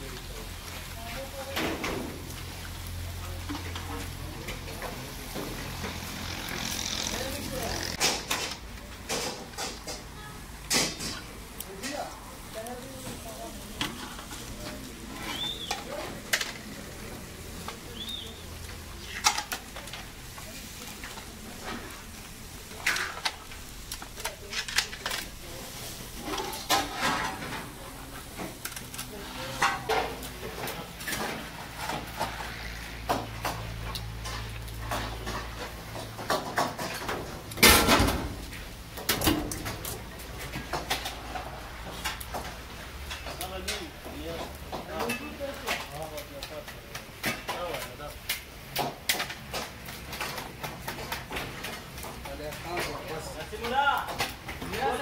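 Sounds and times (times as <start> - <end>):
chickens sizzling over charcoal grill: 0.0 - 55.0
skewers clattering on metal counter: 1.1 - 55.0.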